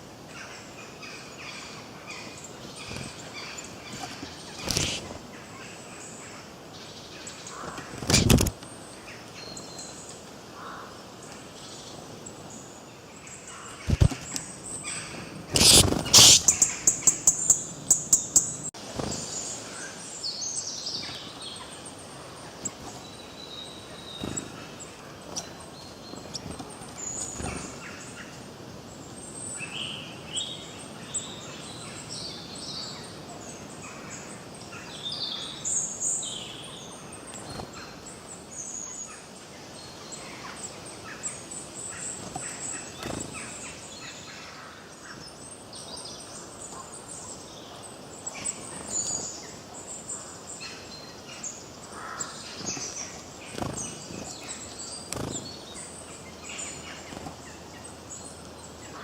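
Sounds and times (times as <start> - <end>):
outdoor background noise: 0.0 - 59.0
birds chirping and calling: 0.4 - 12.6, 13.2 - 59.0.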